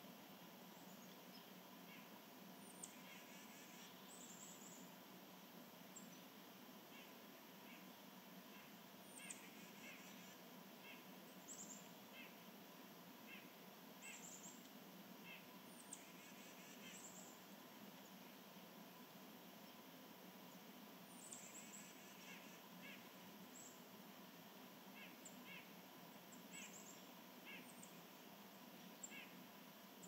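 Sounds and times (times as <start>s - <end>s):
soft steady hiss: 0.0s - 30.0s.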